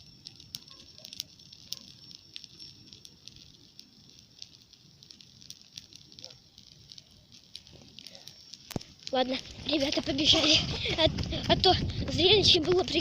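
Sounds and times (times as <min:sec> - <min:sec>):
bonfire crackling and popping: 0:00.0 - 0:13.0
hiss of burning: 0:00.0 - 0:13.0.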